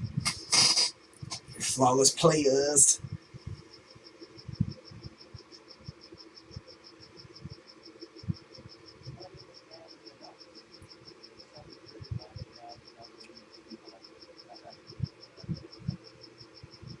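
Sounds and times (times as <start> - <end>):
high-pitched pulsed chirping: 0.0 - 17.0.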